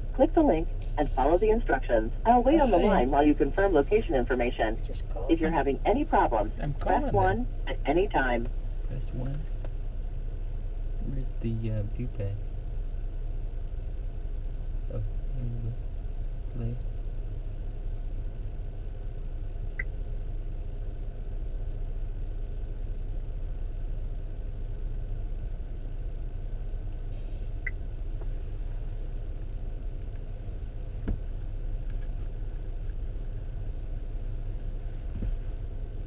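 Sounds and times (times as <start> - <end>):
vehicle cabin rumble: 0.0 - 36.0.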